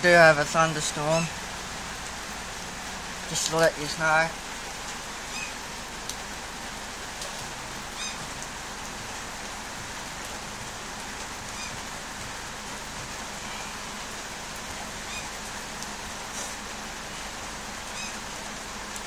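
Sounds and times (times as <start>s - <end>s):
rain on concrete: 0.0s - 19.0s.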